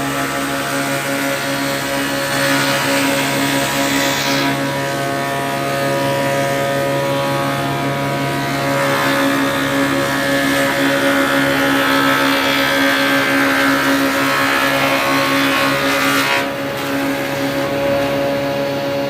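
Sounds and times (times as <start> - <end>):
wood-shaping machine motor hum: 0.0 - 19.0.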